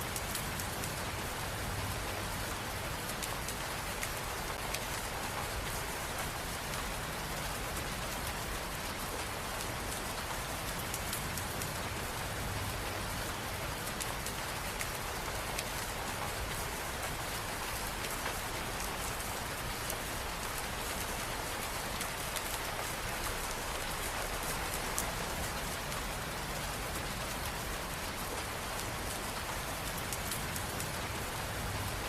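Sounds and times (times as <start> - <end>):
rain on hard surfaces: 0.0 - 32.0.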